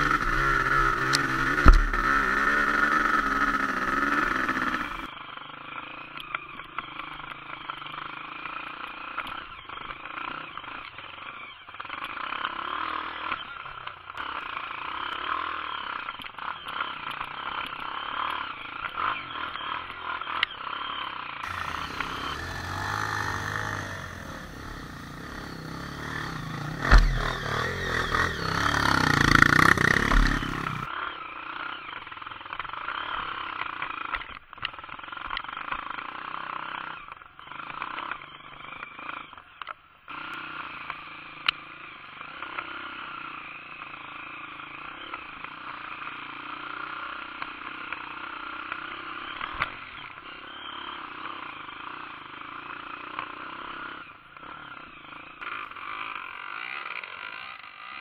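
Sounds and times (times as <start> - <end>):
dirt bike engine revving: 0.0 - 34.2, 40.1 - 58.0.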